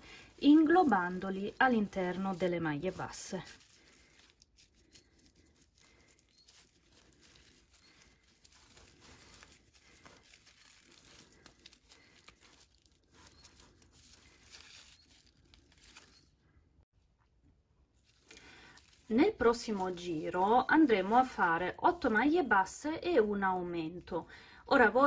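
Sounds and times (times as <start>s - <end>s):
crinkling rustle of yarn crocheting: 0.0s - 16.8s, 17.8s - 25.0s.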